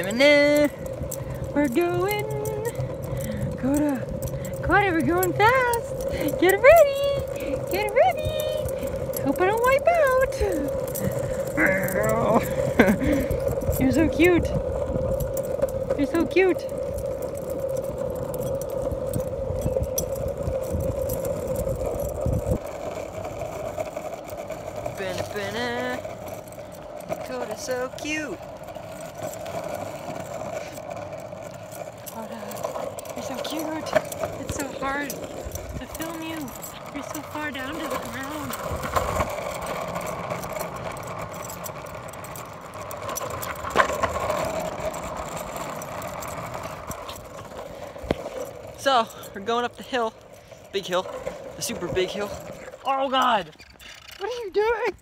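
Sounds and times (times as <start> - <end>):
longboard wheels rolling on asphalt: 0.0 - 55.0.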